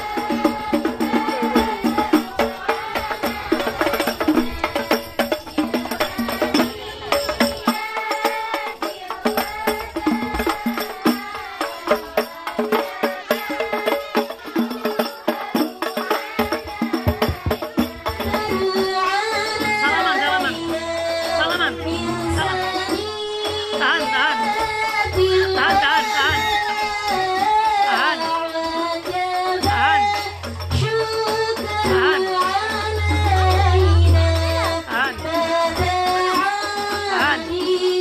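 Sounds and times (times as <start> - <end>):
children singing: 0.0 - 38.0
frame drums beaten: 0.0 - 38.0.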